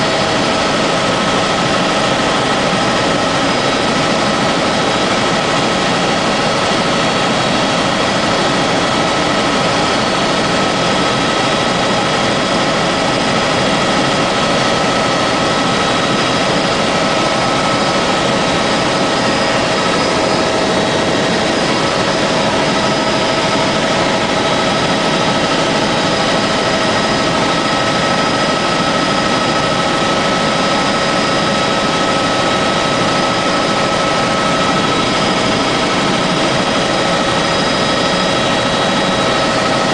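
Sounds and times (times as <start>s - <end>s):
helicopter engine and rotor noise: 0.0s - 39.9s
steady whining tones: 0.0s - 39.9s.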